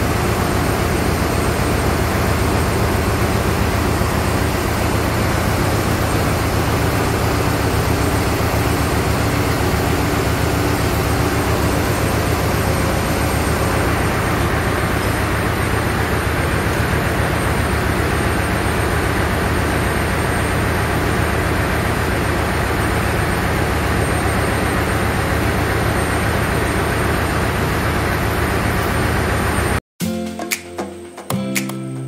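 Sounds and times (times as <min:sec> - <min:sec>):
engine-room machinery humming: 0:00.0 - 0:29.8.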